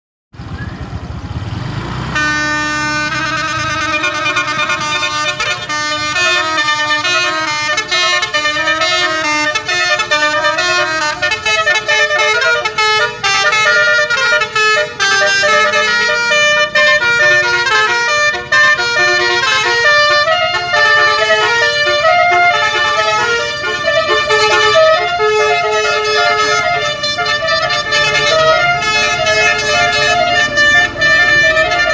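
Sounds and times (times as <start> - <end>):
multi-tone bus horn tune: 2.1 - 31.9.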